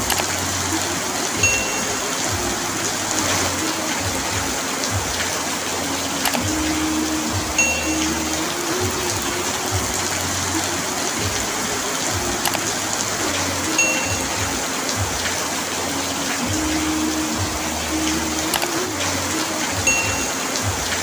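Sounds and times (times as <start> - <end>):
heavy rain on a roof: 0.0 - 21.0.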